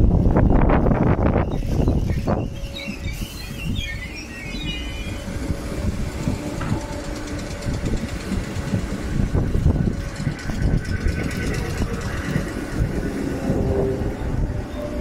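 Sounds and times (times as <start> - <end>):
faint train whine: 0.0 - 15.0
train wheels rumbling and clicking: 0.0 - 15.0.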